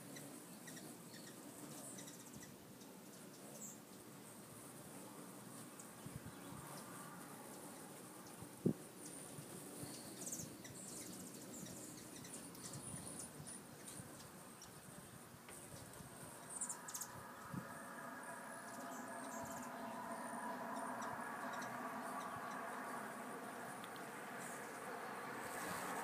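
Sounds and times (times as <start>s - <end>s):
hummingbird chirping: 0.0s - 26.0s
hummingbird wing hum: 0.0s - 26.0s.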